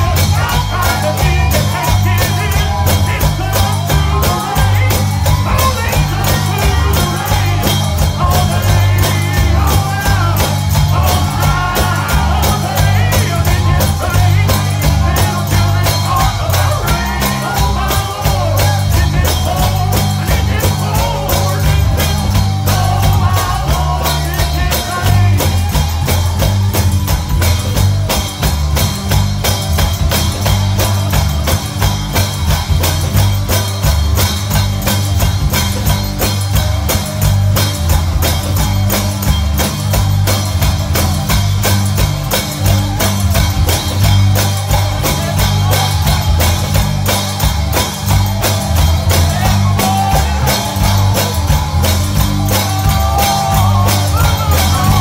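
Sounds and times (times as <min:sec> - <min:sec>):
bass line: 0:00.0 - 0:55.0
drums: 0:00.0 - 0:55.0
tambourine: 0:00.0 - 0:55.0.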